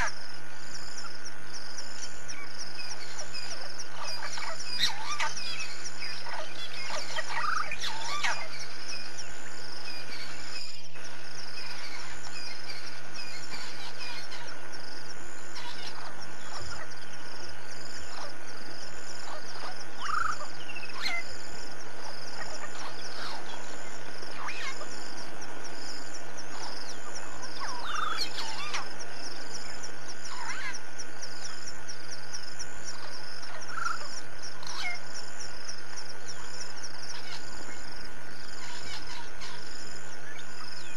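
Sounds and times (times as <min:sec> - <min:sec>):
insects chirping: 0:00.0 - 0:40.9
steady low hum: 0:00.0 - 0:40.9.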